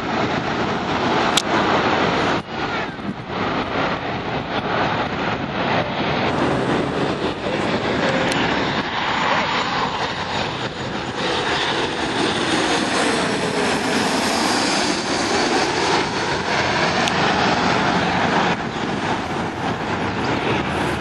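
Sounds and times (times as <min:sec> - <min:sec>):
jet passing overhead: 0:00.0 - 0:21.0.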